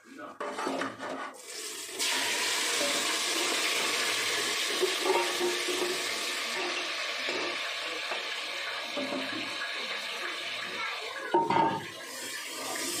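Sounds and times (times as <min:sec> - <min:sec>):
chicken sizzling in hot oil: 0:01.4 - 0:13.0.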